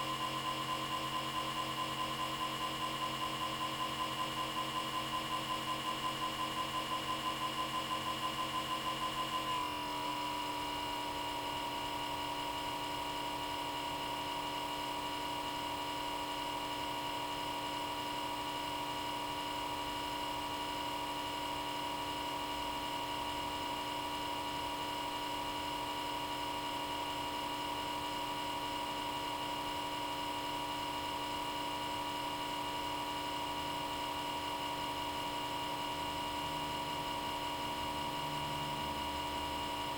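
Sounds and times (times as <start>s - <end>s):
cooling fan humming with whine: 0.0s - 39.9s.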